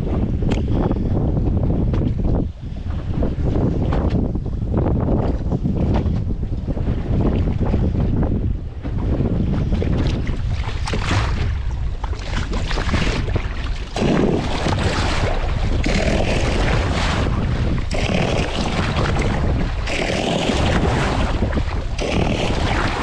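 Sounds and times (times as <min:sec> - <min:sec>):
waves slapping boat hull: 0:00.0 - 0:23.0
wind buffeting microphone: 0:00.0 - 0:23.0.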